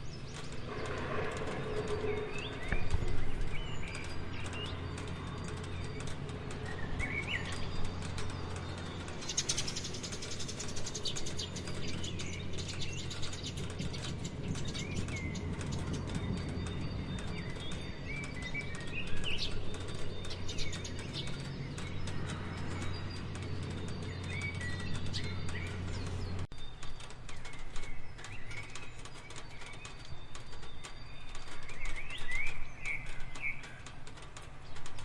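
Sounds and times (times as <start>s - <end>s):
birds chirping: 0.0s - 35.0s
rain dripping: 0.0s - 35.0s.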